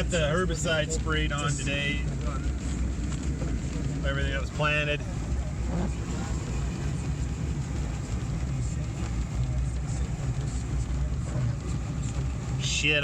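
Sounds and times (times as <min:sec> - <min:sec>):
vehicle rumble from inside cab: 0:00.0 - 0:13.0
wind and road noise: 0:00.0 - 0:13.0.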